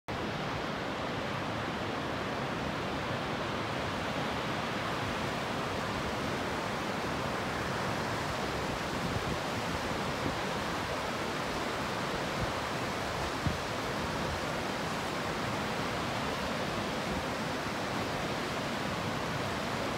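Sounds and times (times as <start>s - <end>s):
rushing water: 0.1s - 19.9s.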